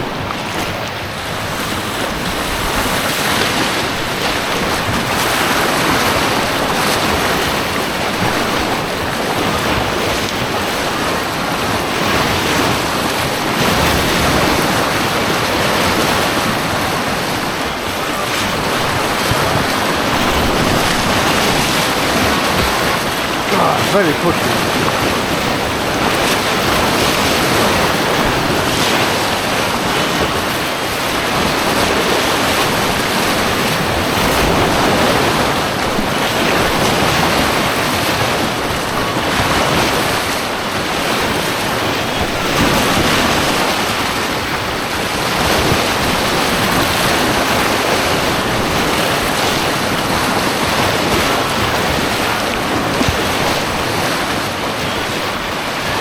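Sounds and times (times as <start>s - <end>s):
rushing white water: 0.0s - 56.0s.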